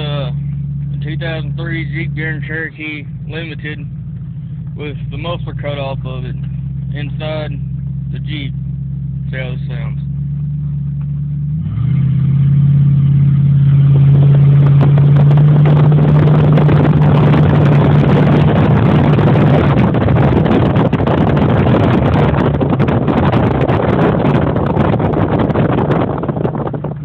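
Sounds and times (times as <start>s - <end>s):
loud deep car exhaust drone: 0.0s - 27.0s.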